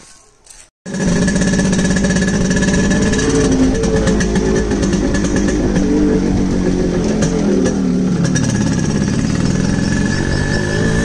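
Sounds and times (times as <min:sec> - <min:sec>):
two-stroke motorcycle engine running: 0:00.9 - 0:11.0.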